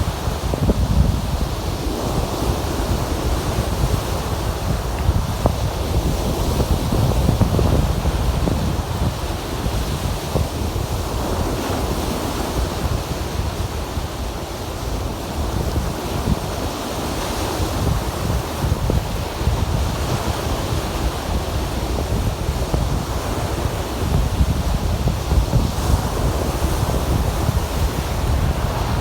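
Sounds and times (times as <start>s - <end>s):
lake waves washing on shore: 0.0s - 29.0s
wind rumbling on microphone: 0.0s - 29.0s.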